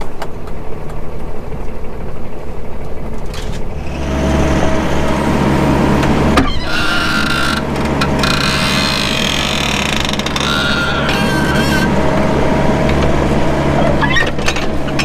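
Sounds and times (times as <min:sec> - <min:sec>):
high steady whine: 0:00.0 - 0:15.0
tractor diesel engine running: 0:00.0 - 0:15.0.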